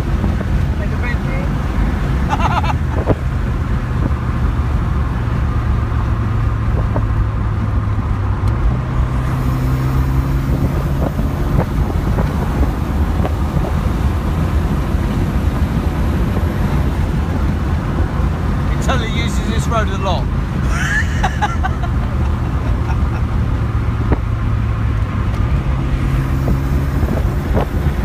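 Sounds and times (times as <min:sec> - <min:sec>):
car engine drone: 0:00.0 - 0:28.0
road and tyre noise: 0:00.0 - 0:28.0
higher engine tone: 0:00.8 - 0:28.0.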